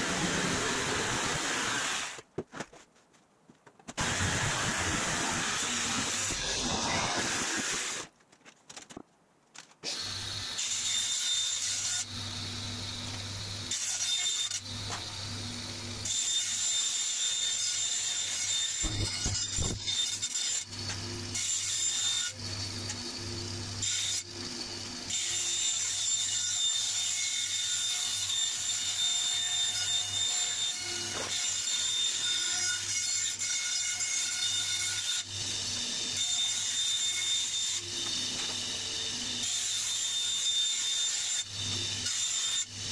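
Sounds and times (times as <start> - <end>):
band saw cutting aluminum: 0.0 - 2.2, 4.0 - 8.1, 9.8 - 42.9.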